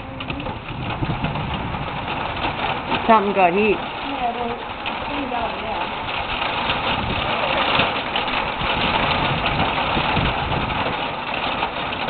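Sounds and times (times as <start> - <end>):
rain hissing: 0.0 - 12.0
thunder rumbles: 0.0 - 12.0
wind: 0.0 - 12.0.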